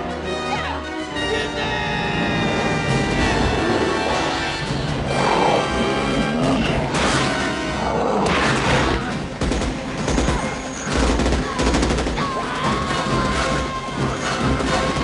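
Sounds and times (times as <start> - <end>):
film music score: 0.0 - 15.0.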